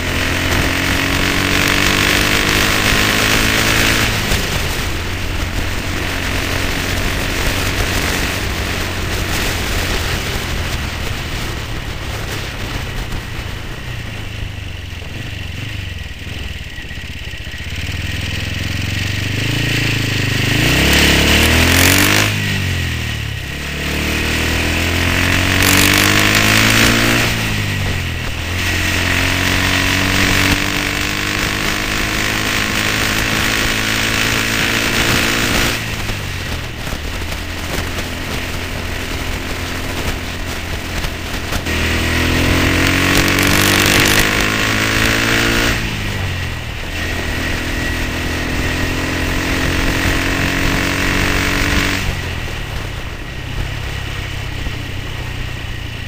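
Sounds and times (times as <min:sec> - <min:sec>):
motorcycle engine shifting gears: 0:00.0 - 0:56.0
wind and road noise: 0:00.0 - 0:56.0.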